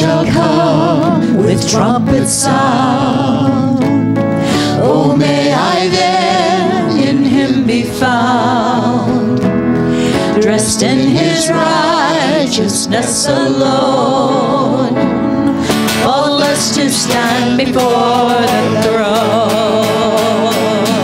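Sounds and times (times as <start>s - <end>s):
singers with vibrato: 0.0s - 9.4s, 10.0s - 21.0s
band accompaniment: 0.0s - 21.0s.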